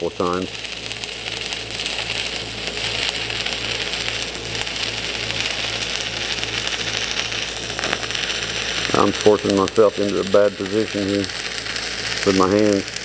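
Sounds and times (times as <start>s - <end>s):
low electrical hum: 0.0s - 13.0s
welding arc crackling sizzle: 0.0s - 13.0s.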